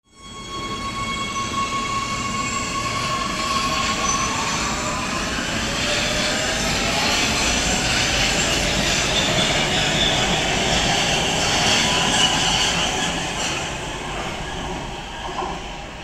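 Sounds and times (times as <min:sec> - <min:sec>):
metro train running on rails: 0:00.1 - 0:16.0
train wheels squealing: 0:00.1 - 0:16.0.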